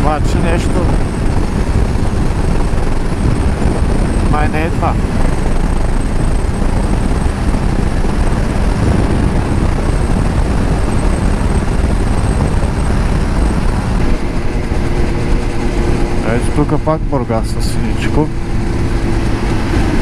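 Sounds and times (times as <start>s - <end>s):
motorcycle running: 0.0s - 20.0s
wind buffeting microphone: 0.0s - 20.0s.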